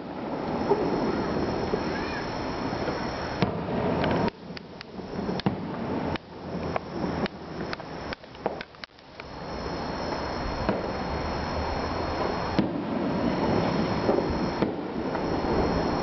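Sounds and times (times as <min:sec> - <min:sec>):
firework shells bursting: 0:00.0 - 0:16.0
steady rumbling noise: 0:00.0 - 0:16.0.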